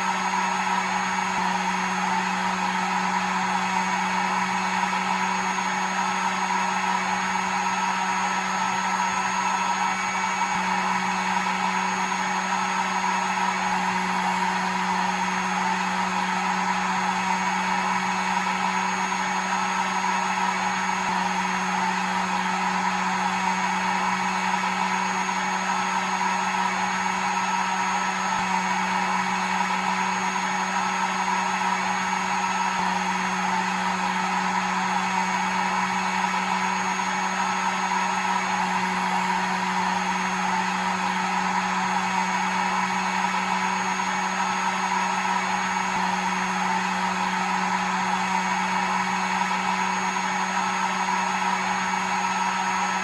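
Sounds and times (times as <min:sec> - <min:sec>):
hair dryer running: 0:00.0 - 0:53.0.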